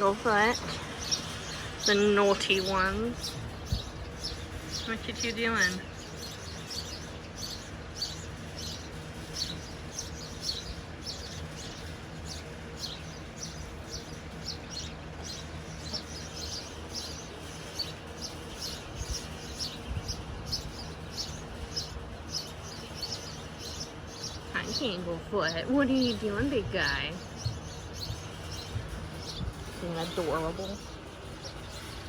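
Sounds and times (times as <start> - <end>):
low background rumble: 0.0 - 32.0
small birds chirping: 0.0 - 32.0.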